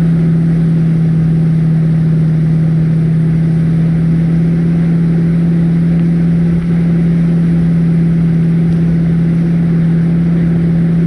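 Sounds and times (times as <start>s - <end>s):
motor humming steadily: 0.0s - 11.0s.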